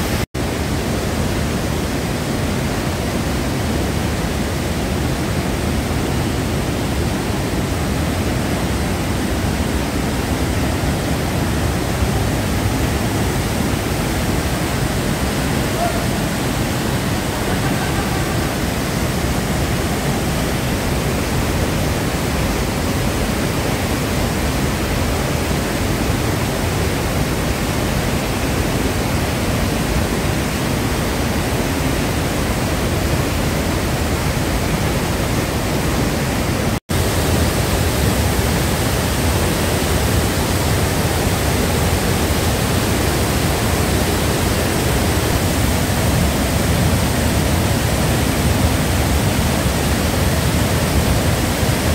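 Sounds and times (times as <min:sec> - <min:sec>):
whitewater rushing through gorge: 0:00.0 - 0:51.9.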